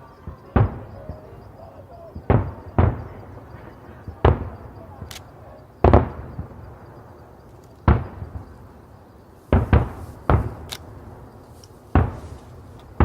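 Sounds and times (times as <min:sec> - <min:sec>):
rolling echo: 0:00.0 - 0:08.9, 0:09.5 - 0:13.0
firework shells booming: 0:00.0 - 0:13.0.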